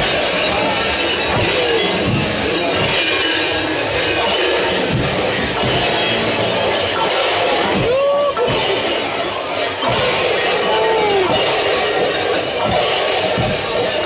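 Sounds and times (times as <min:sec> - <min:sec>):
many bells jingling: 0:00.0 - 0:14.0.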